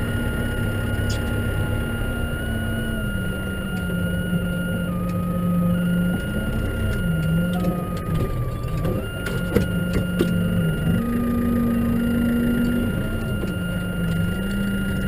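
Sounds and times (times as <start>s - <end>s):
engine whine: 0.0s - 15.0s
tractor engine running: 0.0s - 15.0s.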